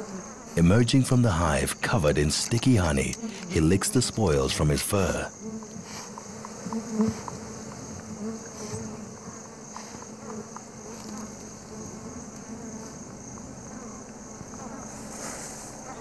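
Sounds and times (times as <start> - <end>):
bees buzzing: 0.0 - 16.0
night insects chirring: 0.0 - 16.0.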